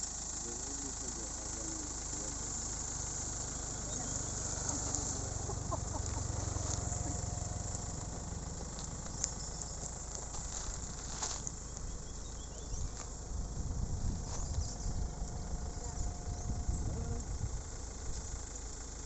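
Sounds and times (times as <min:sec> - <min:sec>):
insects chirring: 0:00.0 - 0:19.0
low engine rumble: 0:00.0 - 0:19.0.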